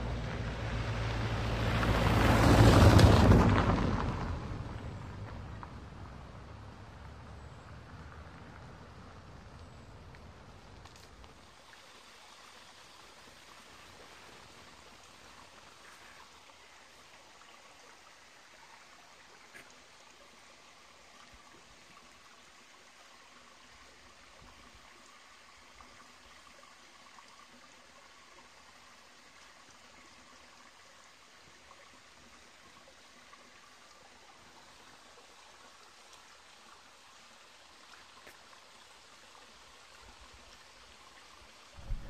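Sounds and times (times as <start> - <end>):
stream trickling over rocks: 0.0 - 42.0.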